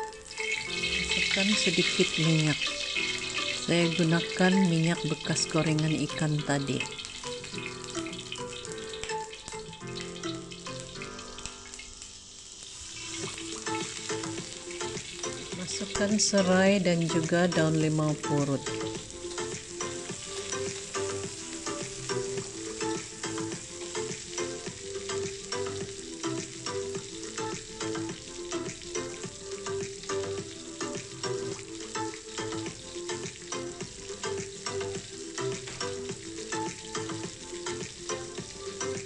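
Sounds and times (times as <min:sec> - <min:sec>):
herbs sizzling in hot oil: 0:00.0 - 0:39.0.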